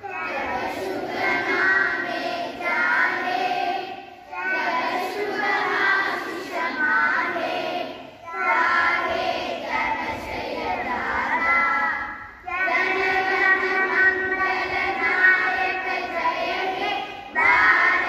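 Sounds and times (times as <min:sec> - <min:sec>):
young children singing: 0:00.0 - 0:18.0.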